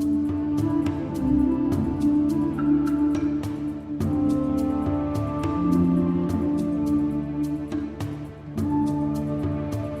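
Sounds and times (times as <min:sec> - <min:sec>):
music with held tones: 0:00.0 - 0:10.0.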